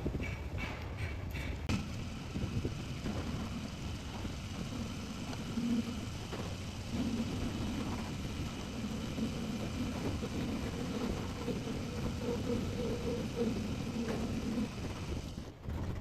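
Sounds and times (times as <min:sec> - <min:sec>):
machinery humming: 0:01.2 - 0:15.5.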